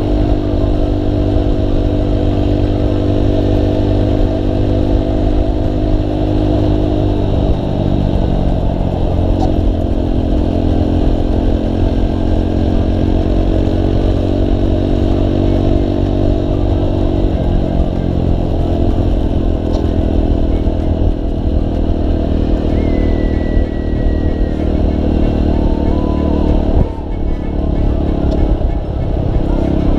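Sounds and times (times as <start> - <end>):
motorcycle engine running: 0.0 - 29.9
wind rushing over microphone: 0.0 - 29.9.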